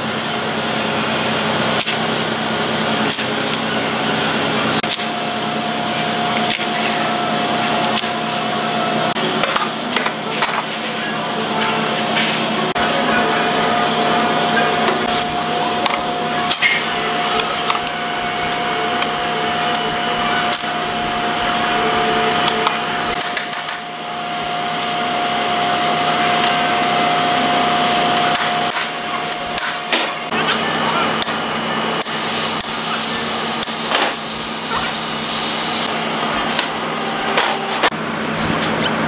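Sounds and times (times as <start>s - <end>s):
constant whine: 0.0s - 39.0s
mechanical hum: 0.0s - 39.0s.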